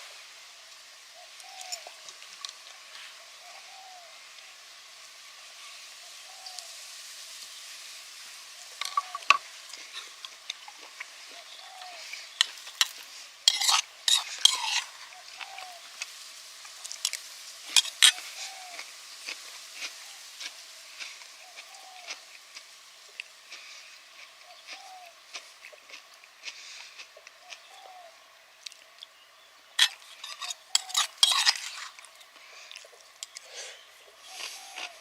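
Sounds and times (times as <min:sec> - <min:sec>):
food sizzling with crackles: 0:00.0 - 0:35.0.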